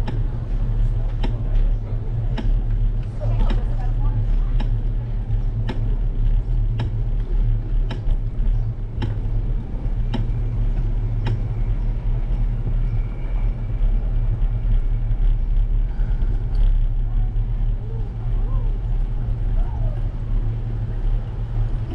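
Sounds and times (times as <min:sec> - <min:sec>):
wind and road noise rumble: 0:00.0 - 0:21.9.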